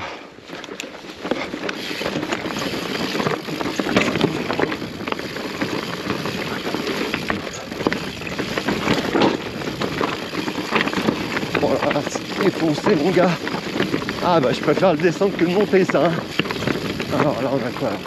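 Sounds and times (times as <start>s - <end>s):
bike rattling: 0.0s - 18.0s
bike tyres crunching over rocks: 0.0s - 18.0s.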